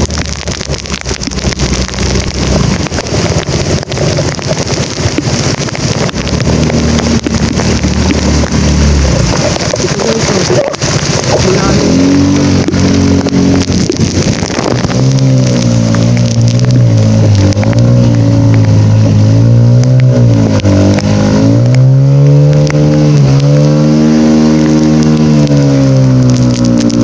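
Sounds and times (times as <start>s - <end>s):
heavy rain hiss: 0.0s - 27.0s
splashing water: 0.0s - 27.0s
vehicle engine running: 0.0s - 27.0s.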